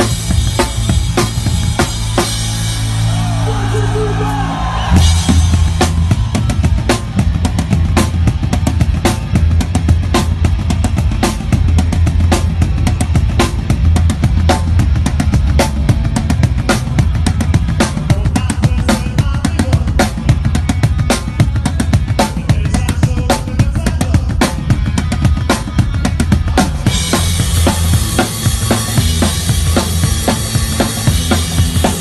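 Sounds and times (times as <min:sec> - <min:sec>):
bass drum and snare beat: 0:00.0 - 0:04.2, 0:04.8 - 0:32.0
rock band playing live: 0:00.0 - 0:32.0.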